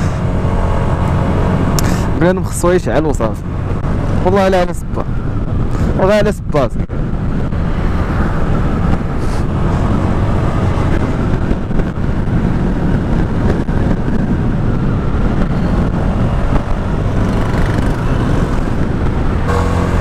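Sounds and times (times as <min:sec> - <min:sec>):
scooter engine and road noise: 0:00.0 - 0:20.0.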